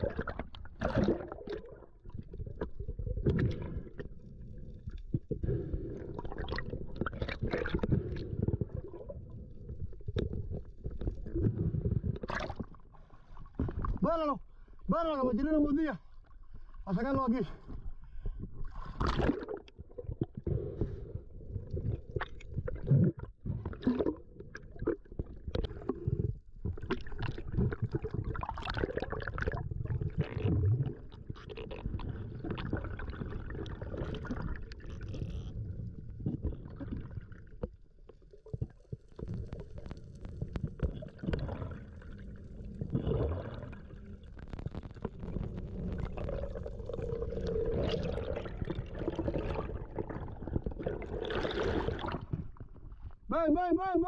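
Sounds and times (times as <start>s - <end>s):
water gurgling and sloshing: 0.0s - 53.3s.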